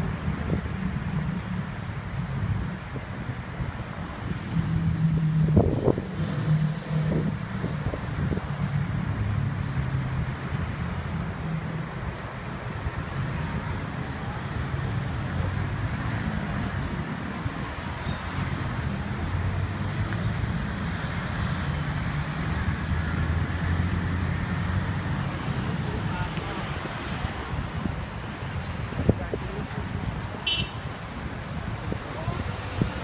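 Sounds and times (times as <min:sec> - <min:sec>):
road traffic rumble: 0:00.0 - 0:33.0
wind on microphone: 0:02.3 - 0:09.3, 0:11.8 - 0:33.0.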